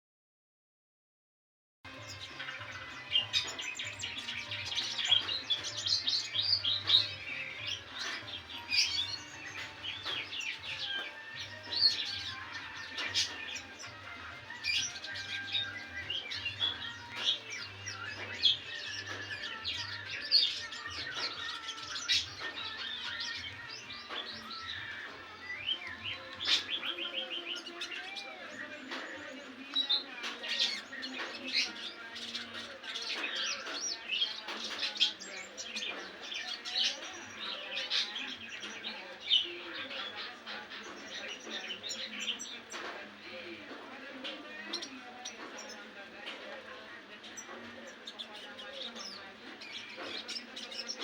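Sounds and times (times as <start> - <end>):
bird twittering song: 1.9 - 51.0.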